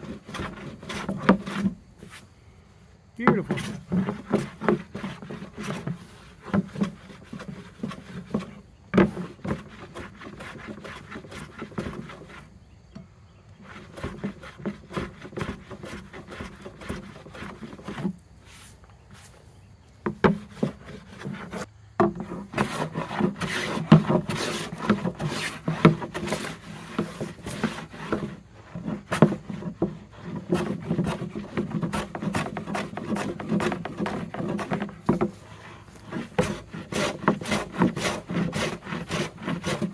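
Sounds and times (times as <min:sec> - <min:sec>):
hand plane shaving wood: 0:00.0 - 0:02.2, 0:03.2 - 0:12.6, 0:13.6 - 0:19.3, 0:20.0 - 0:39.9.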